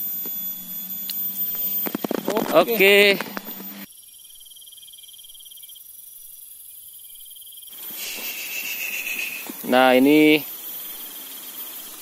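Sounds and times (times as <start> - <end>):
crickets trilling: 0.0 - 12.0
lower cricket trill: 0.0 - 12.0.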